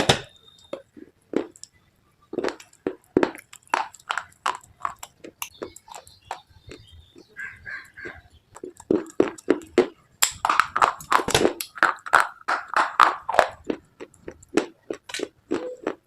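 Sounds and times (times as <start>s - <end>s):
crunchy biting and chewing: 0.0s - 16.0s.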